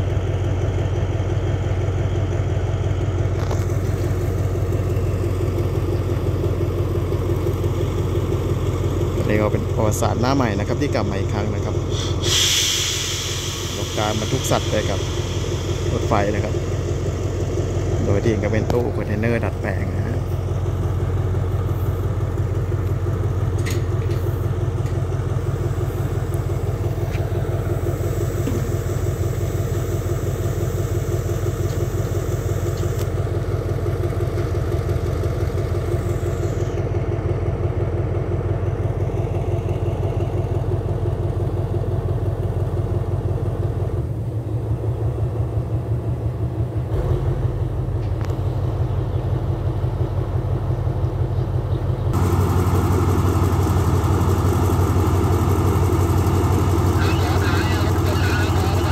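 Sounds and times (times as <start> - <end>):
locomotive engine humming: 0.0 - 58.9.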